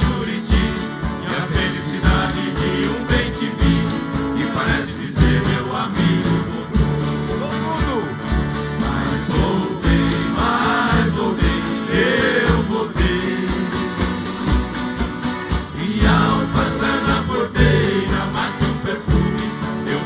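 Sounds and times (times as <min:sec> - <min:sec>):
people singing: 0:00.0 - 0:07.4, 0:08.5 - 0:20.0
strummed and plucked guitars: 0:00.0 - 0:20.0.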